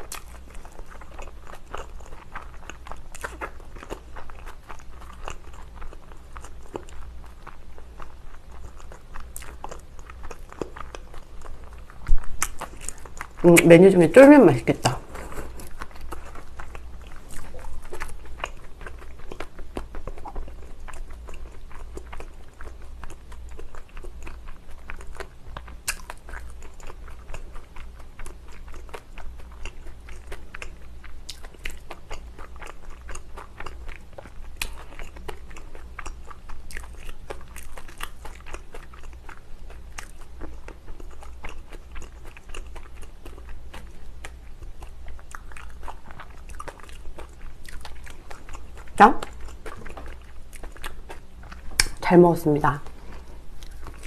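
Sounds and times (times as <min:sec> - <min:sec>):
wet chewing clicks and smacks: 0:00.0 - 0:13.8, 0:14.8 - 0:52.0, 0:53.0 - 0:54.0
low steady hum: 0:00.0 - 0:54.0.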